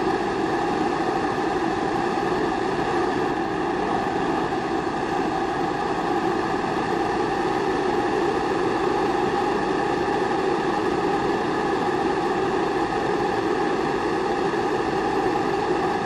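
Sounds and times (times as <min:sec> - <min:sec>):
stove flame rushing: 0:00.0 - 0:16.0.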